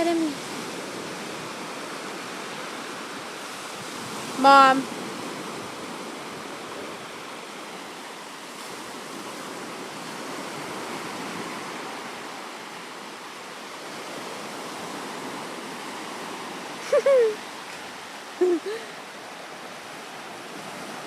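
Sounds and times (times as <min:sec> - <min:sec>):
ocean surf rushing: 0:00.0 - 0:21.0.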